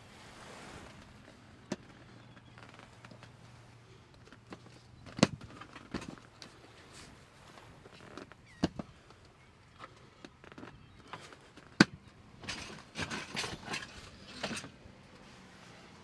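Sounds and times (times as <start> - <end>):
scraping and rustling of fabric: 0.0 - 16.0.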